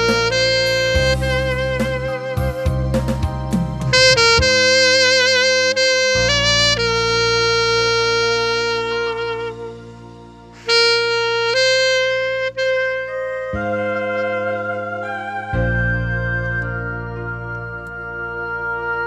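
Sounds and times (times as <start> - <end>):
slow melody with vibrato: 0.0 - 19.0
steady bass backing: 0.0 - 19.0.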